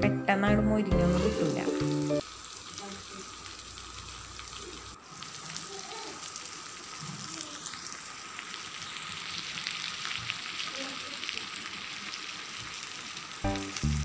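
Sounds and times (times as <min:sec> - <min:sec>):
fish sizzling in hot oil: 0:01.2 - 0:14.0.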